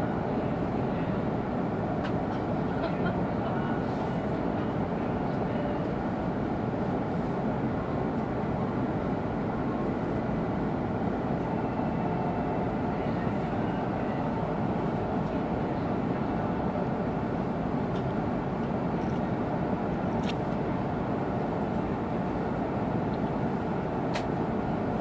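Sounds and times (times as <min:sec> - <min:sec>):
train running rumble and hiss: 0:00.0 - 0:25.0.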